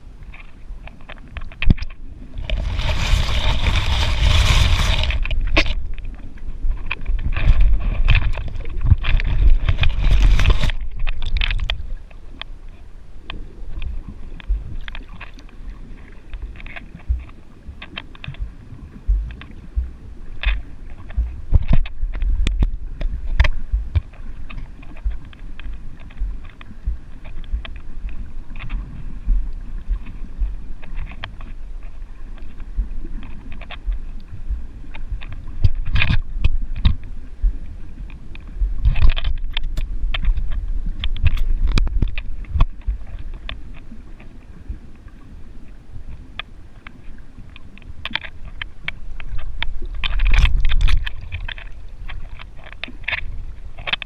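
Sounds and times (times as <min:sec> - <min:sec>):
muffled underwater rushing water: 0:00.0 - 0:54.0.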